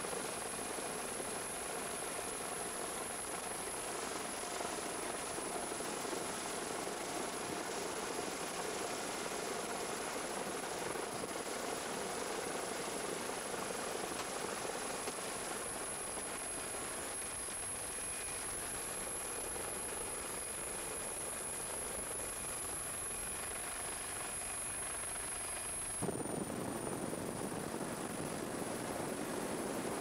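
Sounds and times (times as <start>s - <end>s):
helicopter engine and rotor: 0.0s - 30.0s.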